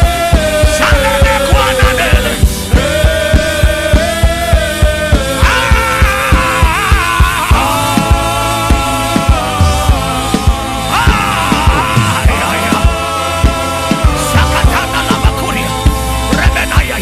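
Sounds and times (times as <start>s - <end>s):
keyboard chords: 0.0s - 17.0s
steady drum beat: 0.0s - 17.0s.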